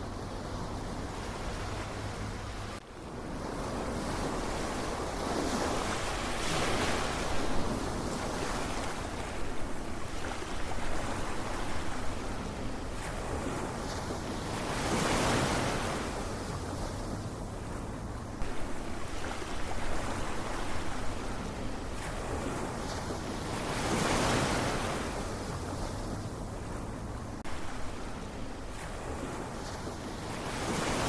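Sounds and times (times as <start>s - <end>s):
ocean waves breaking on shore: 0.0s - 31.0s.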